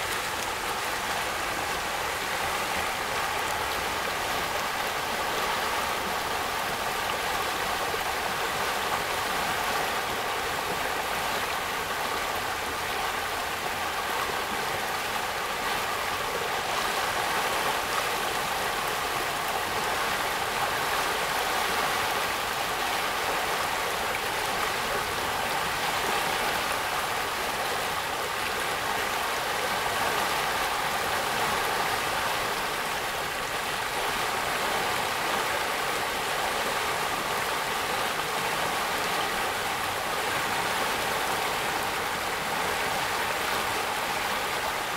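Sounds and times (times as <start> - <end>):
creek water rushing over riffle: 0.0 - 44.9.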